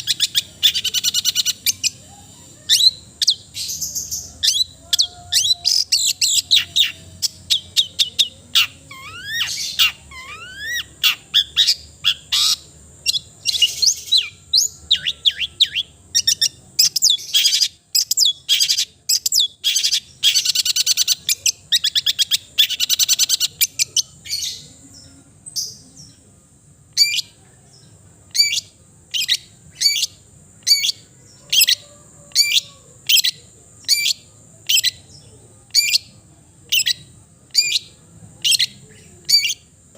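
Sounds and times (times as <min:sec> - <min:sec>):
sharp bird calls: 0:00.0 - 0:26.2, 0:28.3 - 0:36.1.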